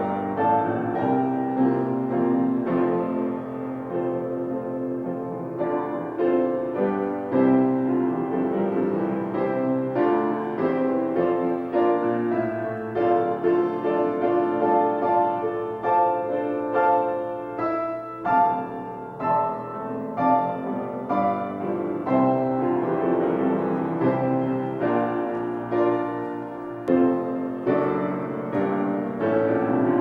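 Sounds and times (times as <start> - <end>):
piano playing slow chords: 0.0 - 30.0.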